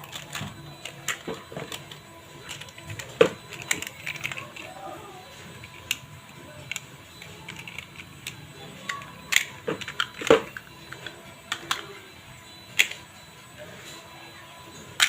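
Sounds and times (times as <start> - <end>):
plastic toy cars clicking: 0.0 - 12.0, 12.7 - 13.1.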